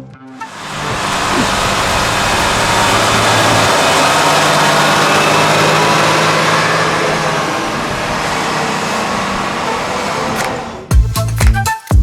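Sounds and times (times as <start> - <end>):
tractor diesel engine droning: 0.4 - 11.0.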